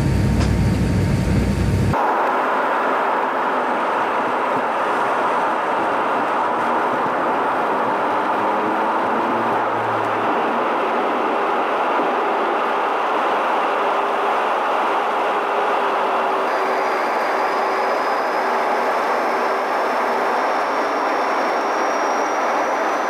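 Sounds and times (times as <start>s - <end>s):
jet engines roaring in cabin: 0.0s - 23.0s.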